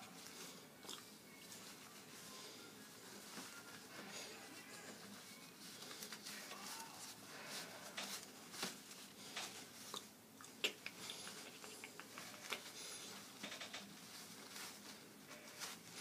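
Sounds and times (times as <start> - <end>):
fabric rustling: 0.0 - 9.9, 12.1 - 16.0.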